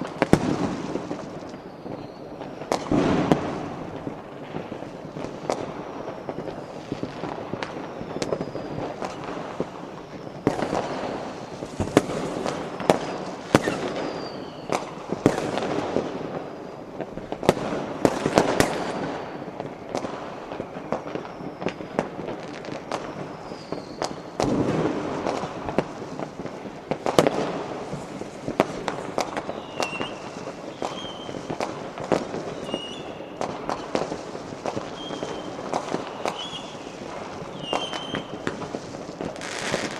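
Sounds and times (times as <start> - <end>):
firecrackers crackling: 0.0 - 39.9
fireworks bangs: 0.0 - 39.9
fireworks whistling: 0.0 - 39.9.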